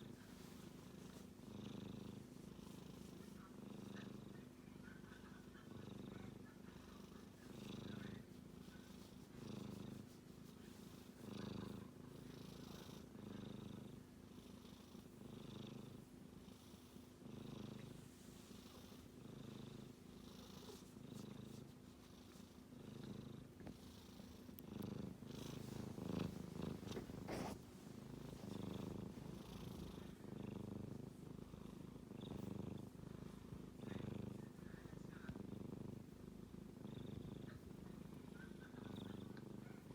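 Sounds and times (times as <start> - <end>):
kitten snoring: 0.0 - 10.2, 10.9 - 39.9.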